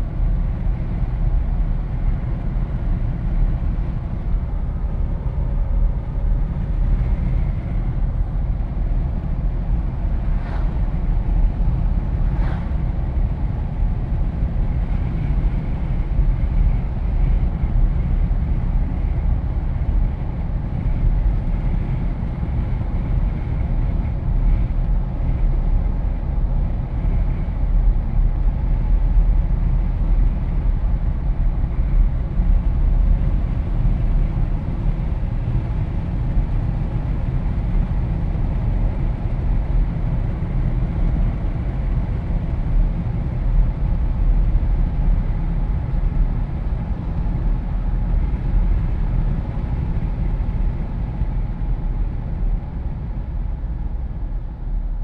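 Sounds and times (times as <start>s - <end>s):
low road rumble: 0.0s - 55.0s
wind rushing through car windows: 0.0s - 55.0s.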